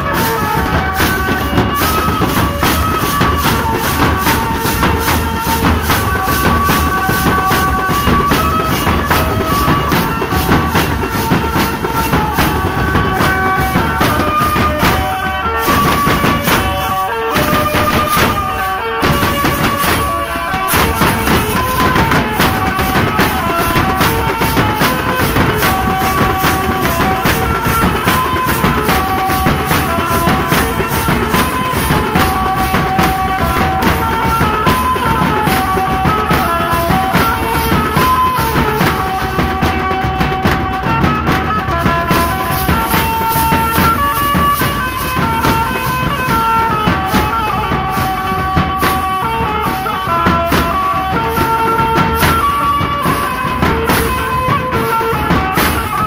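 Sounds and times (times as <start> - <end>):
hand cymbals clashing: 0.0 - 56.0
marching drums beating: 0.0 - 56.0
melody of held notes: 0.0 - 56.0.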